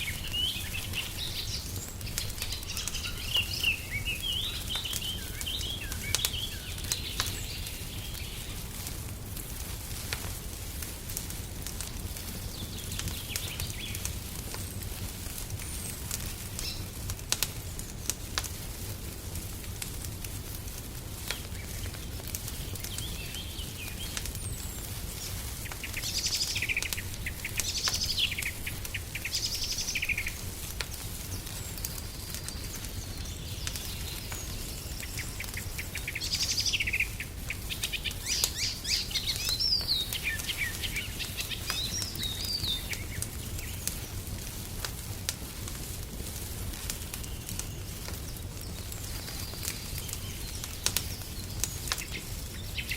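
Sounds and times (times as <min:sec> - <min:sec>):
songbirds chirping: 0:00.0 - 0:52.9
wood fire crackling: 0:00.0 - 0:52.9.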